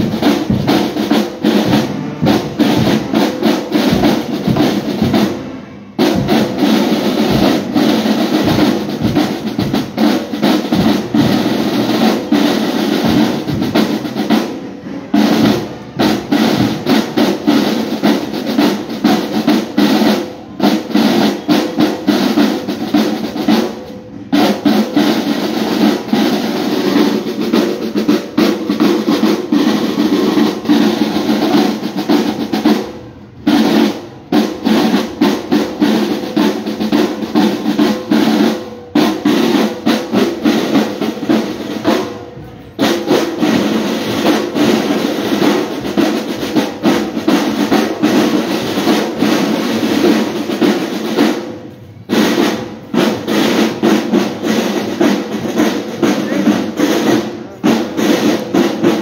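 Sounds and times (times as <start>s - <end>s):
marching drum line: 0.0s - 59.0s.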